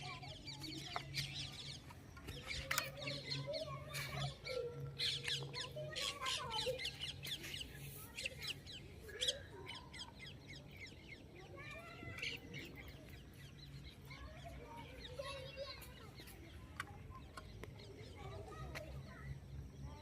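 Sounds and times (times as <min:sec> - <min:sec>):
birds chirping and squawking: 0:00.0 - 0:19.2.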